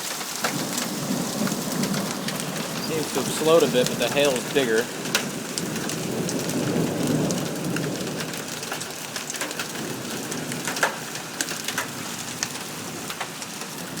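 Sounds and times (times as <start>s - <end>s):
hailstones cracking: 0.0s - 14.0s
rain and hail hissing: 0.0s - 14.0s.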